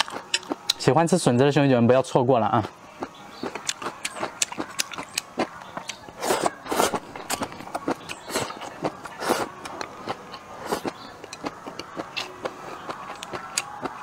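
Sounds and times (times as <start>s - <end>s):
crunchy chewing: 0.0s - 0.8s, 2.5s - 14.0s.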